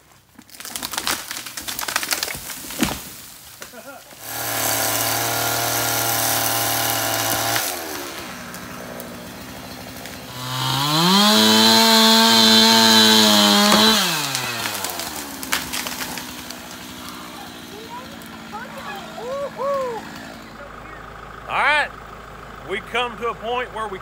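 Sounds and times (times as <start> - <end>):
chainsaw revving and idling: 3.7 - 24.0.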